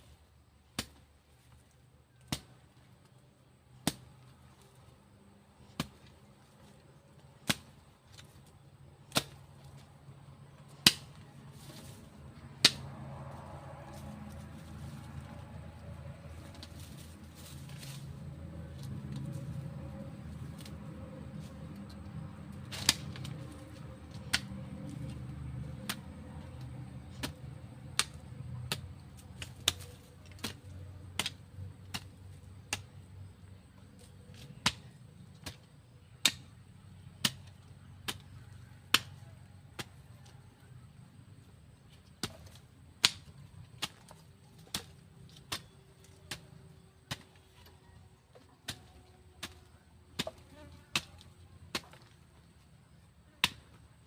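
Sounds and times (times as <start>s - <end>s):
hand hoe chopping into soil: 0.6s - 3.2s, 3.8s - 9.9s, 10.5s - 19.5s, 20.4s - 40.4s, 41.9s - 47.7s, 48.3s - 53.8s.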